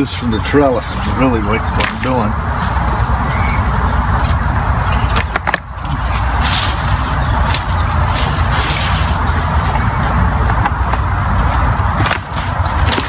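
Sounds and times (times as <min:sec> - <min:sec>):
steady low rumble: 0:00.0 - 0:13.0
vines and leaves rustling: 0:00.0 - 0:13.0.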